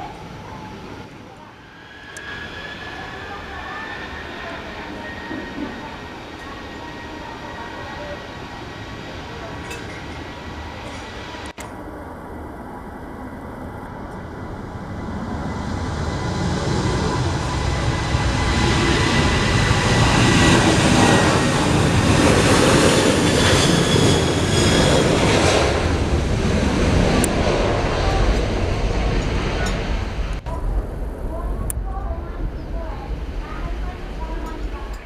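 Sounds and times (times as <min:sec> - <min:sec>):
jet airliner engine roar: 0:00.0 - 0:35.0.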